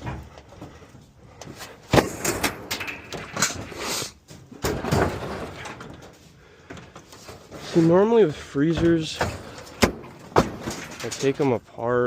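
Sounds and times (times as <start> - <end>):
metal cabinet rattling and scraping: 0.0 - 0.8, 1.7 - 11.6.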